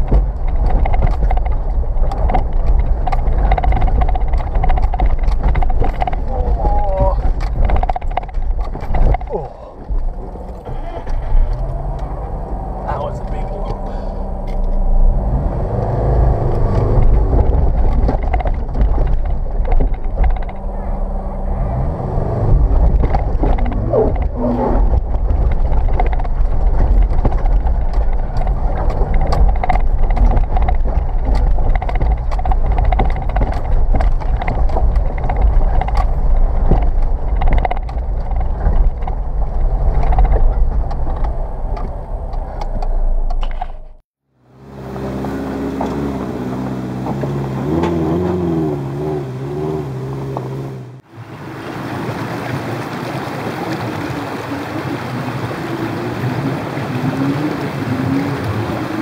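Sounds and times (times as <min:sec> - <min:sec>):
car engine working under load: 0:00.0 - 0:59.0
knocks and clunks over rocks: 0:00.0 - 0:59.0.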